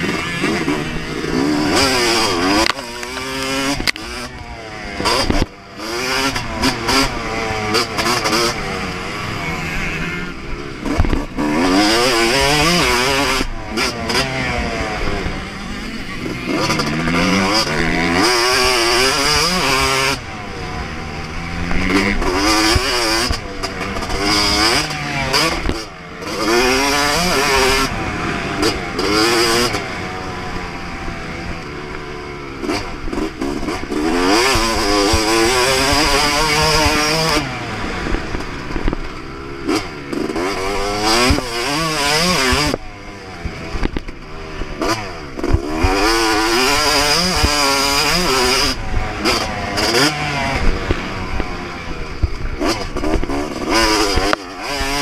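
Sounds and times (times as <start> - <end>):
motocross engine at full throttle: 0.0 - 55.0.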